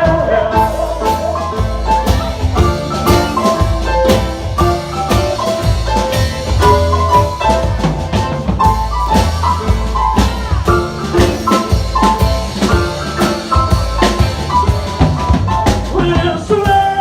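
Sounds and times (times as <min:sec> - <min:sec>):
bright keyboard melody: 0:00.0 - 0:16.8
bass line: 0:00.0 - 0:17.0
drum kit hits: 0:00.0 - 0:17.0.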